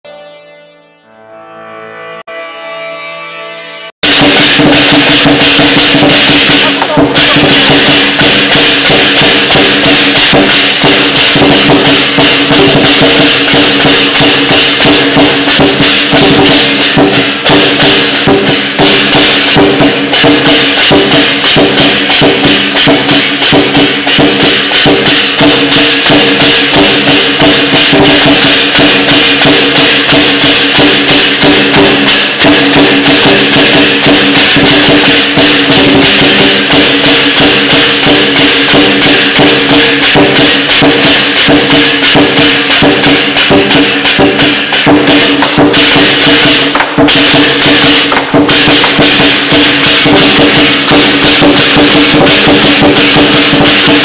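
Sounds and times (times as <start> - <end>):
cymbals clashing: 2.0 - 54.0
drum beaten fast: 4.0 - 54.0.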